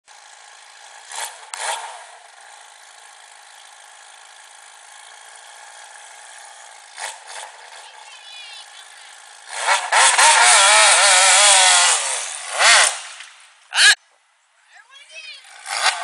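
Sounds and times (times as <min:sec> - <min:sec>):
go-kart engine buzzing: 0:00.1 - 0:14.0, 0:15.3 - 0:16.0.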